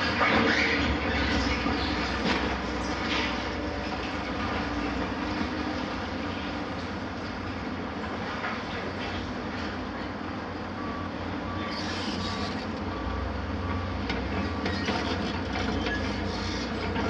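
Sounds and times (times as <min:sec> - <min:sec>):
heavy machinery rumble: 0:00.0 - 0:17.0.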